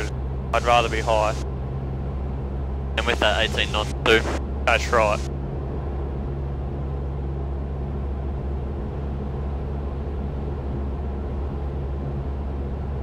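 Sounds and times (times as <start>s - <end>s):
airplane engine droning: 0.0s - 13.0s.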